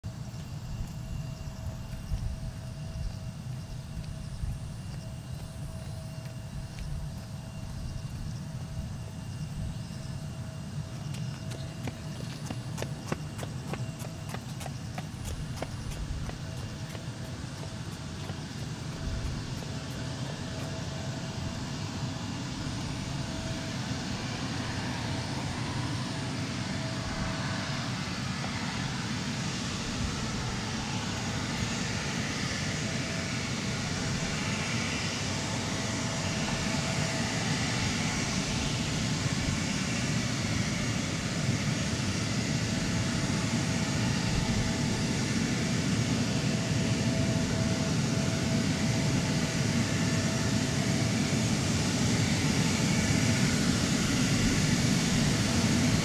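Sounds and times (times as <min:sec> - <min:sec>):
jet engines taxiing: 0:00.1 - 0:56.0.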